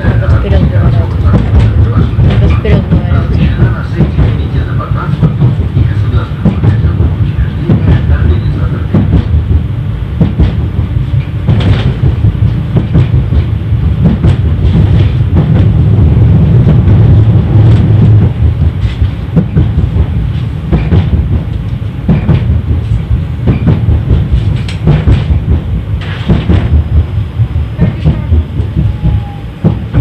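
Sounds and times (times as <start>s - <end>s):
tram rumbling along track: 0.0s - 30.0s
wheels clacking over rails: 0.0s - 30.0s.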